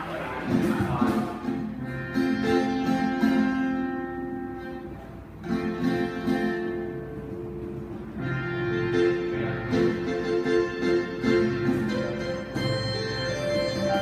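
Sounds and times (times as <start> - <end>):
guitar strumming chords: 0.4 - 14.0.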